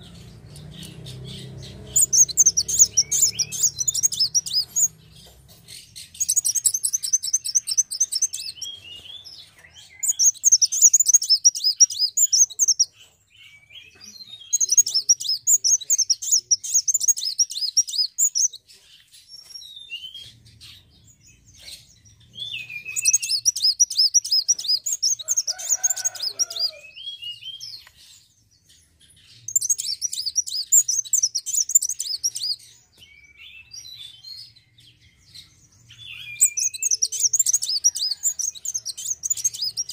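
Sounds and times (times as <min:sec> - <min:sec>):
bird twittering: 0:00.0 - 0:18.6, 0:19.4 - 0:27.9, 0:29.3 - 0:34.2, 0:35.3 - 0:39.9.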